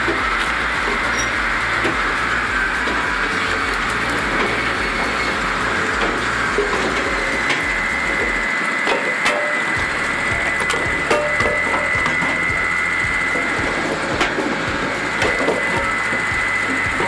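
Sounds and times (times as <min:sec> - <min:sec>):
machinery mechanical clatter: 0:00.0 - 0:17.0.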